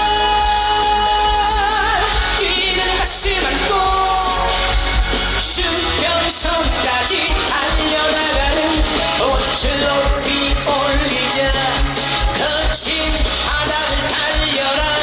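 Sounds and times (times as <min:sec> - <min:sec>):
backing band with heavy bass: 0:00.0 - 0:15.0
man singing with vibrato: 0:00.0 - 0:15.0.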